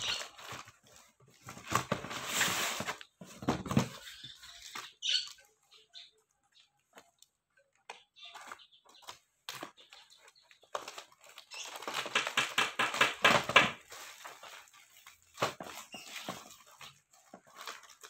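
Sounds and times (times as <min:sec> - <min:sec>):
cardboard rustling and crinkling: 0:00.0 - 0:05.9, 0:06.8 - 0:18.0.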